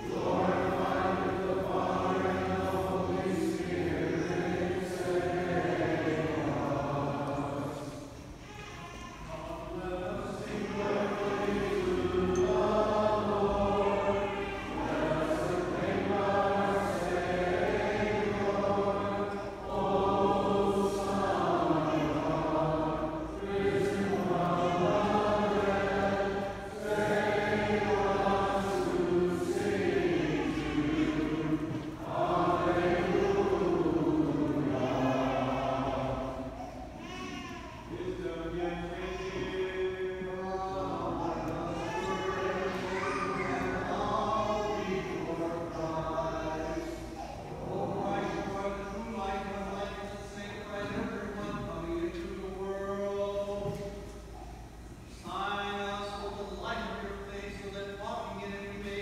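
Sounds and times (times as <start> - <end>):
choir chanting: 0.0 - 8.2, 9.2 - 37.3, 37.9 - 54.0.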